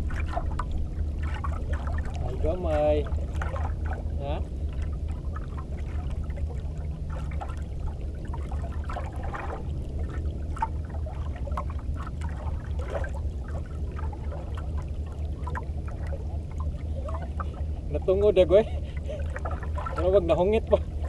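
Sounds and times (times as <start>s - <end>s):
low steady rumble: 0.0s - 21.0s
water lapping against boat hull: 0.0s - 21.0s.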